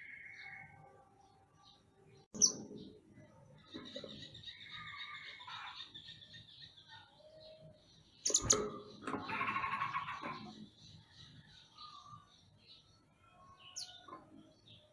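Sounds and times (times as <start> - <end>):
songbird chirping and twittering: 0.0 - 14.9.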